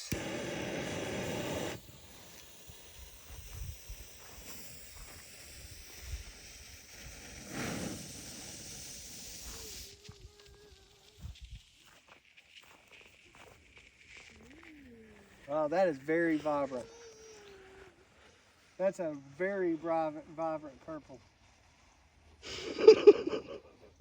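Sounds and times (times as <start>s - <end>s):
smoke bomb hissing: 0.0s - 24.0s.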